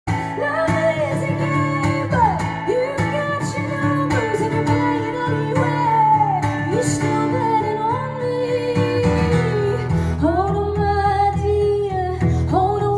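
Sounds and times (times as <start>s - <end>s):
strummed guitar: 0.1s - 12.9s
woman singing: 0.1s - 12.9s.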